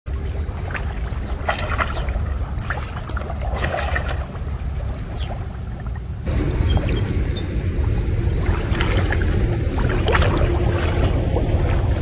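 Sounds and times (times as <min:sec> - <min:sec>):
steady low rumble: 0:00.1 - 0:12.0
water sloshing: 0:00.1 - 0:12.0
water splashing and dripping: 0:00.1 - 0:12.0.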